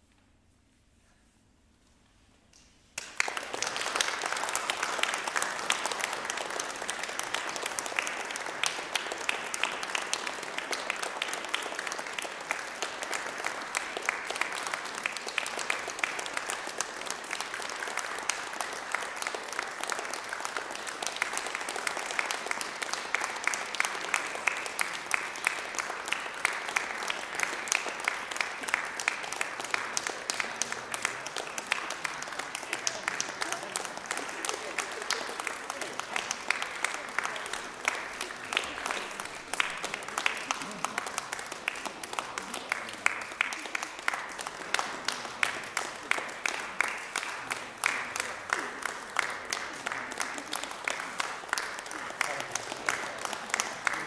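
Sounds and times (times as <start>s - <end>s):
audience applause: 3.0s - 54.0s.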